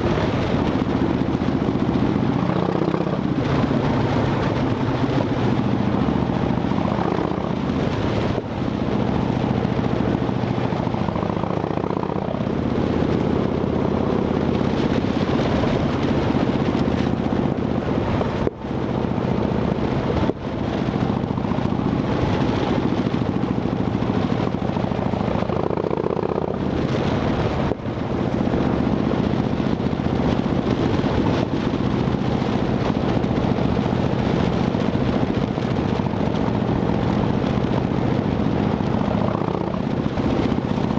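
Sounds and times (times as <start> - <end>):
motorcycle exhaust note: 0.0 - 40.9.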